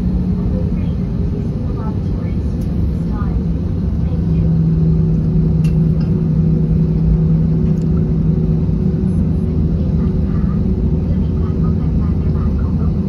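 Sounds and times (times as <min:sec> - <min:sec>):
constant low drone: 0:00.0 - 0:13.0
faint higher hum: 0:00.0 - 0:13.0
jet engines rumbling: 0:00.0 - 0:13.0.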